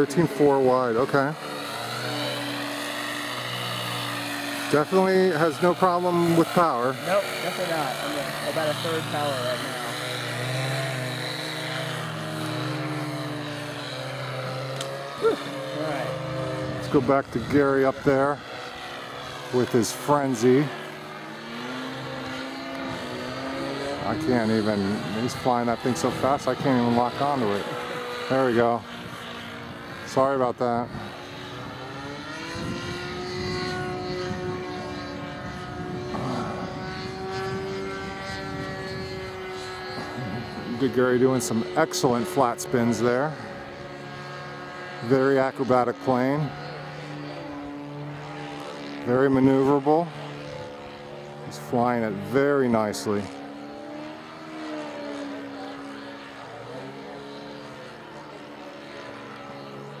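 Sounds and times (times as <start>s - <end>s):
model plane engine droning: 0.0s - 60.0s.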